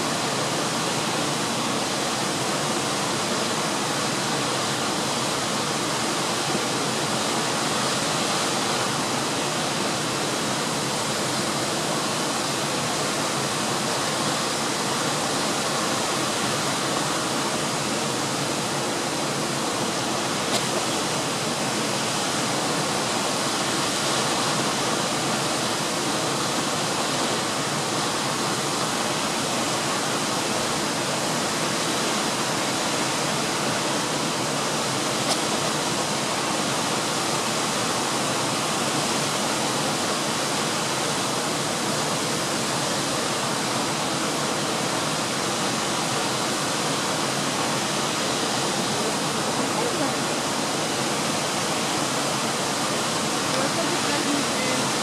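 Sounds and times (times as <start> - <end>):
waterfall cascading over rock: 0.0 - 55.0.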